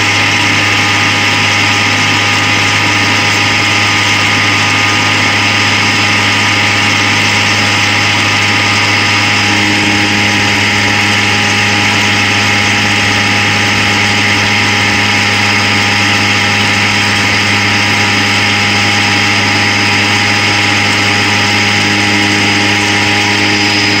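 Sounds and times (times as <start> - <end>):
centrifuge humming and whining: 0.0 - 24.0.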